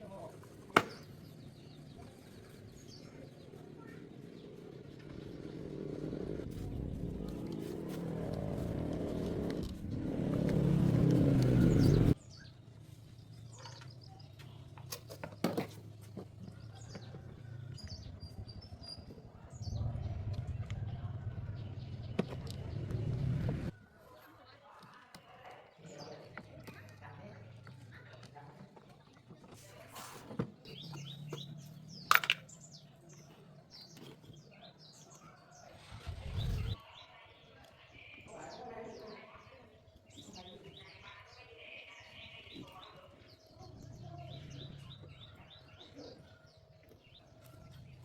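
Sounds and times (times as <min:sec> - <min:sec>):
birds chirping: 0:00.0 - 0:29.9, 0:30.6 - 0:48.0.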